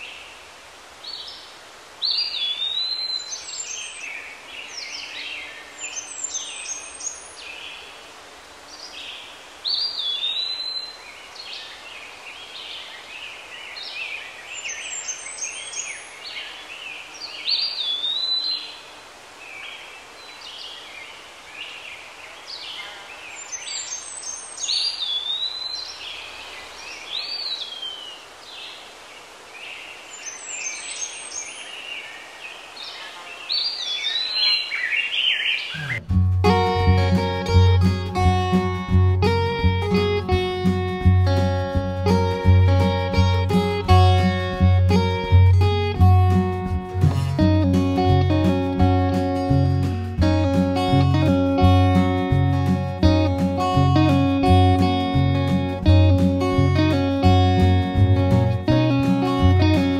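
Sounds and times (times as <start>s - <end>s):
faint steady hiss: 0.0s - 59.9s
songbirds singing: 0.0s - 59.9s.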